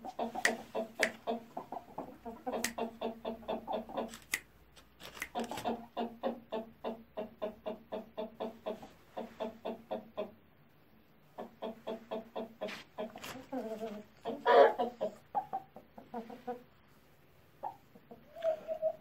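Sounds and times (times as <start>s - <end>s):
chicken clucking: 0.0s - 4.4s, 5.1s - 19.0s.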